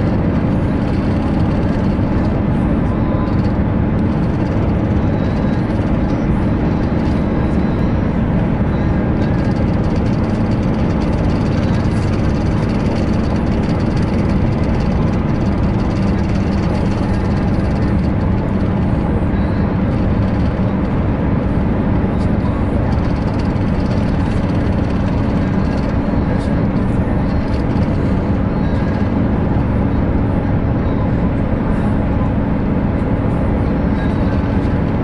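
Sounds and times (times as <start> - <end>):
car engine humming: 0.0 - 35.0
road and wind noise: 0.0 - 35.0.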